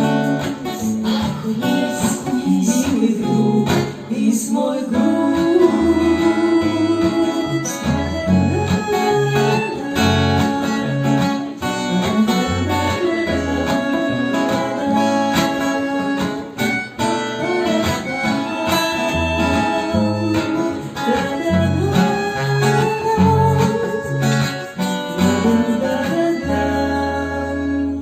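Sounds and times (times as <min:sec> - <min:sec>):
acoustic blues guitar: 0:00.0 - 0:28.0
held melody line: 0:00.0 - 0:28.0.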